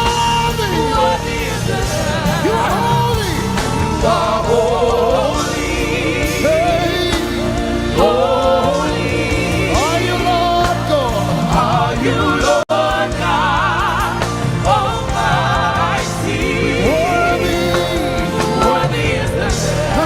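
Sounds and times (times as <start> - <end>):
band playing: 0.0 - 20.0.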